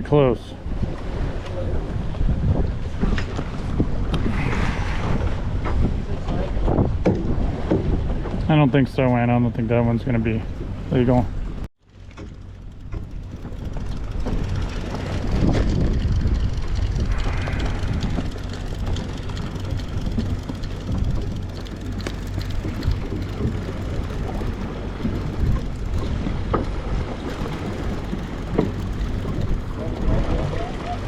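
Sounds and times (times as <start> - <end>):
wind buffeting microphone: 0.0 - 11.6, 12.2 - 31.0
boat engine hum: 0.0 - 31.0.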